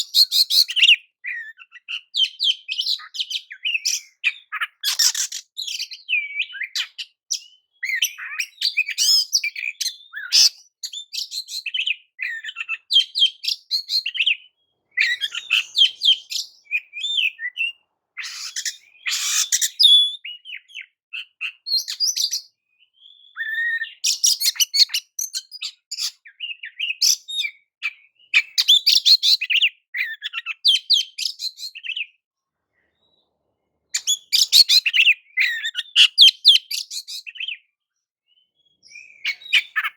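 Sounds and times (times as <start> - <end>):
bird singing varied whistled song: 0.0 - 32.2, 33.9 - 39.9.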